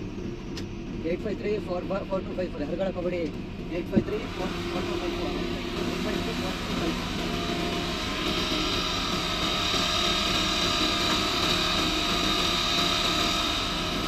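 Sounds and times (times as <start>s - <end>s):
fuel pump running with whine: 0.0s - 14.0s.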